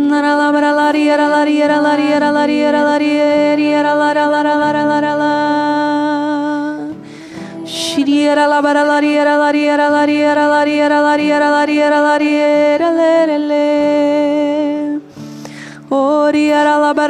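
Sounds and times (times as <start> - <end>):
person singing long notes: 0.0 - 15.3.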